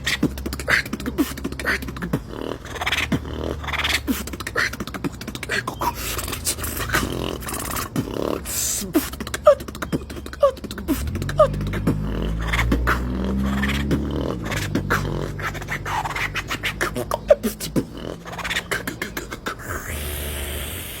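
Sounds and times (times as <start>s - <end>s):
beatboxed low bass tone: 0.0s - 21.0s
beatboxing clicks and snares: 0.0s - 21.0s.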